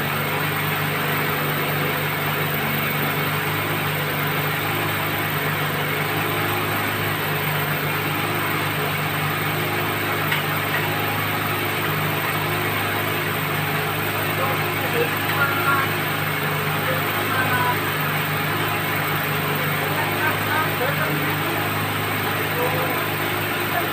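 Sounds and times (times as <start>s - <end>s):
drilling rig engine humming: 0.0s - 23.9s.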